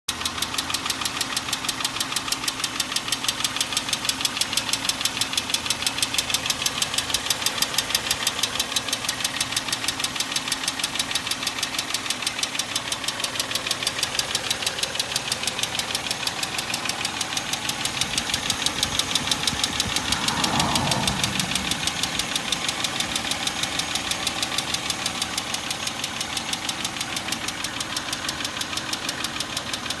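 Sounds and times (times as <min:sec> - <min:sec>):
engine running with fast ticking: 0:00.1 - 0:30.0.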